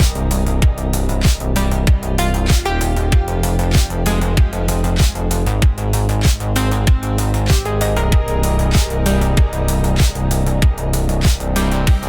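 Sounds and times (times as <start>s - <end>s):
deep kick drum hits: 0.0s - 12.0s
sustained bass and synth notes: 0.0s - 12.0s.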